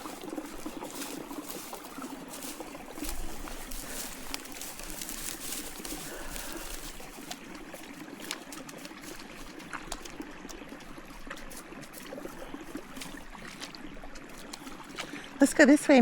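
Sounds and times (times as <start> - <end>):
stream trickling: 0.0 - 16.0.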